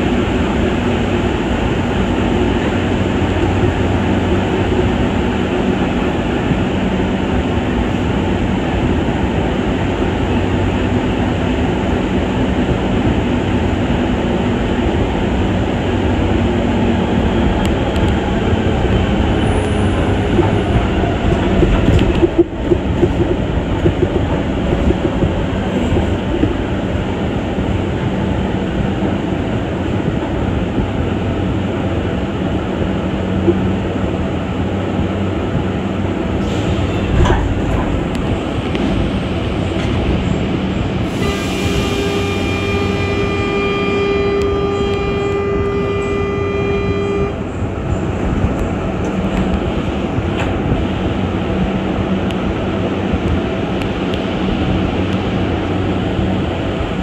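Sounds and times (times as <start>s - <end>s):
metro train running: 0.0s - 57.0s.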